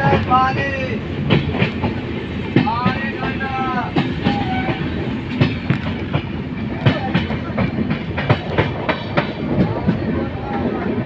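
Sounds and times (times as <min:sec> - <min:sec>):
train rumble: 0:00.0 - 0:11.0
wheels clacking over rail joints: 0:00.0 - 0:11.0.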